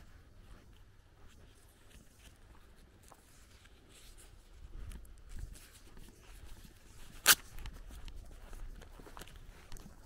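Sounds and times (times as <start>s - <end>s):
footsteps on dirt and grass: 0.0s - 10.0s.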